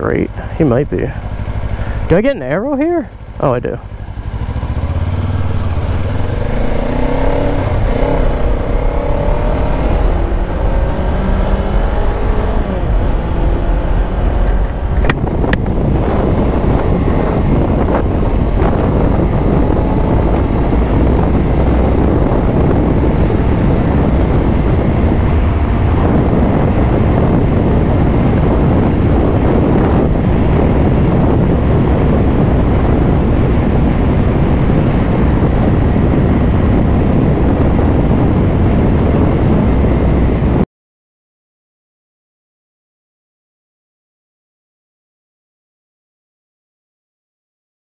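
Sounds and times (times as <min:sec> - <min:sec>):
motorcycle engine accelerating: 0:00.0 - 0:40.6
wind rushing on microphone: 0:00.0 - 0:40.7.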